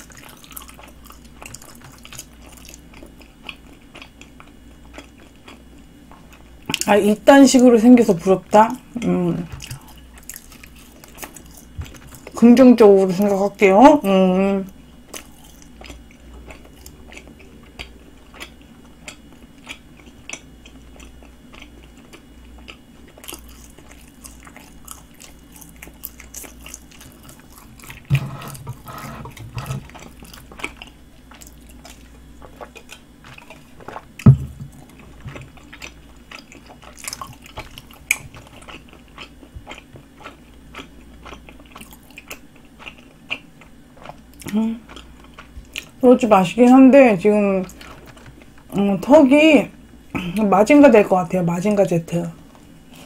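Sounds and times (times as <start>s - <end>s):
chewing bread: 0.0s - 50.5s.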